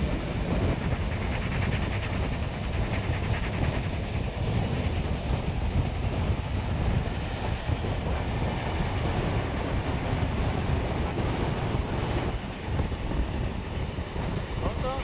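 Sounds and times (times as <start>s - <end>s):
rushing air: 0.0s - 15.0s
train wheels rumbling on rails: 0.0s - 15.0s.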